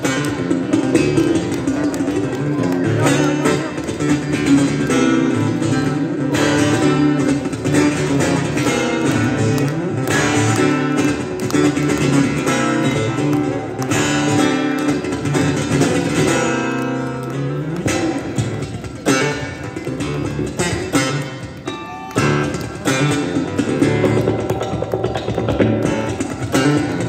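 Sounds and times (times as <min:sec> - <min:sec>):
amplified acoustic guitar: 0:00.0 - 0:27.0.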